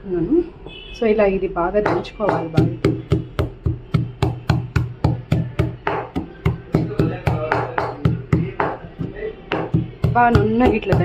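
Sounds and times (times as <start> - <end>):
pestle pounding in a mortar: 1.8 - 11.0.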